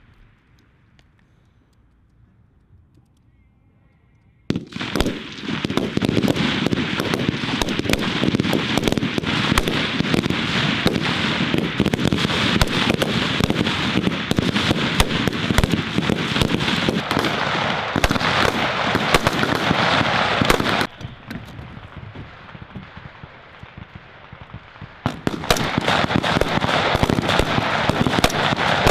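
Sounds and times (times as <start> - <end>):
rifles firing rapidly: 4.5 - 28.9.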